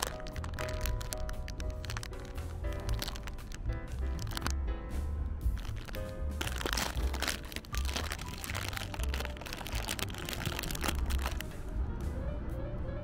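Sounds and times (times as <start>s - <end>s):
plastic wrapper crinkling: 0.0s - 4.6s, 5.6s - 11.5s.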